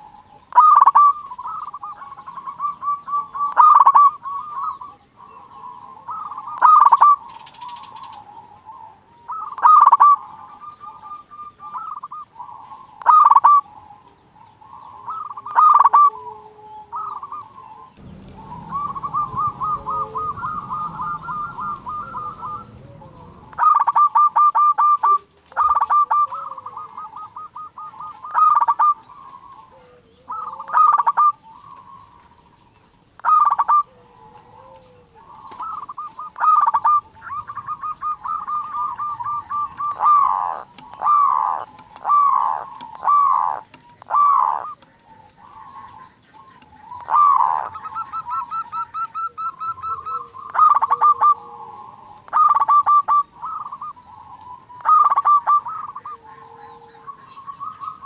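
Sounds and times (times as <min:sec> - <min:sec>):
doves cooing: 0:00.0 - 0:32.6, 0:33.2 - 0:58.0.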